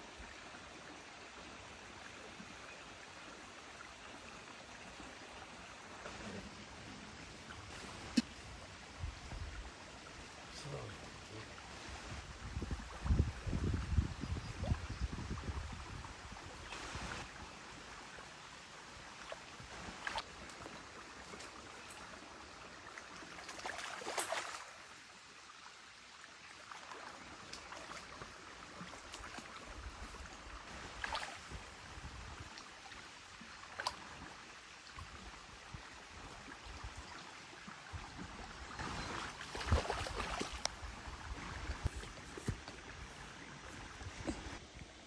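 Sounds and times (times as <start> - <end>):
creek water flowing: 0.0 - 45.0.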